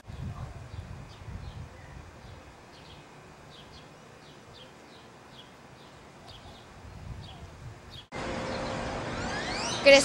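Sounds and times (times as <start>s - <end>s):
faint outdoor background noise: 0.0s - 10.0s
bird chirping: 0.1s - 10.0s.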